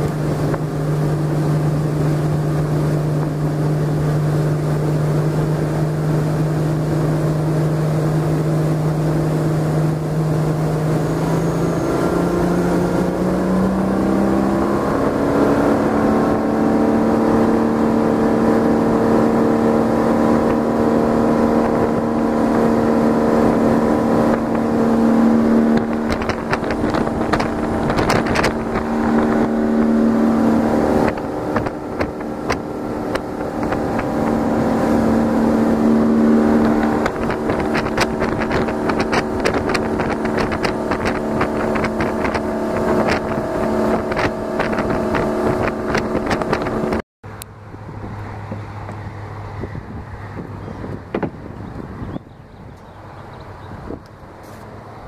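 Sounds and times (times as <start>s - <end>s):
wind buffeting microphone: 0.0s - 47.0s, 47.6s - 55.0s
boat engine running: 0.0s - 55.0s.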